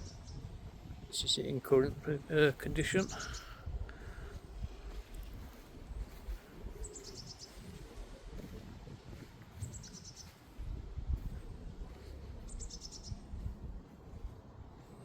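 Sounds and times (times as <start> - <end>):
songbird singing: 0.0 - 15.0
low background rumble: 2.1 - 15.0.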